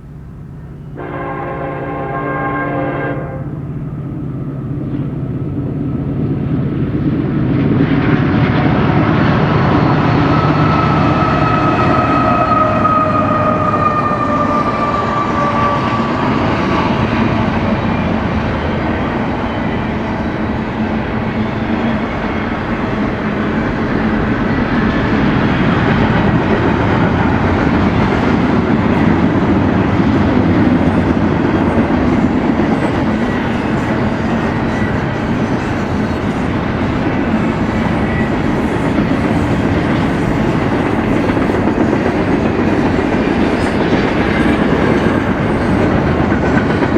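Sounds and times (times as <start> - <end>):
train rumble and rail noise: 0.0 - 46.9.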